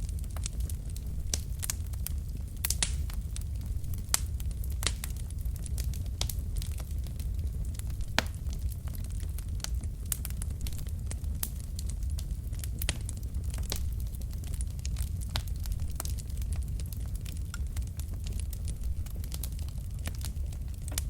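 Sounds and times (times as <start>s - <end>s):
logs crackling and popping: 0.0s - 21.0s
low rumble of flames: 0.0s - 21.0s.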